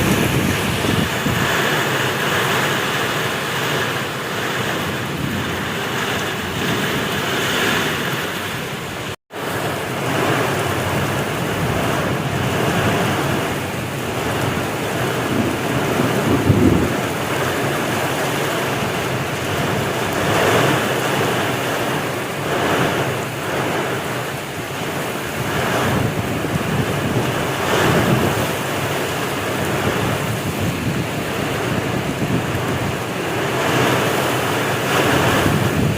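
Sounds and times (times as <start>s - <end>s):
low thunder rumble: 0.0s - 8.6s, 9.4s - 35.9s
heavy rain pouring: 0.0s - 35.9s
strong wind: 0.0s - 35.9s.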